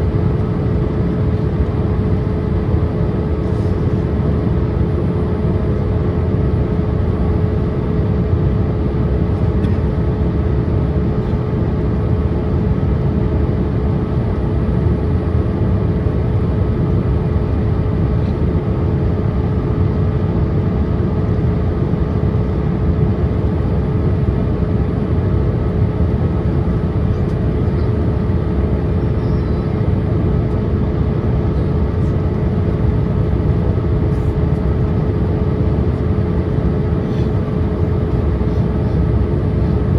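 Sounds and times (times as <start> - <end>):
airliner cabin engine roar: 0.0 - 39.9
constant hum tone: 0.0 - 39.9.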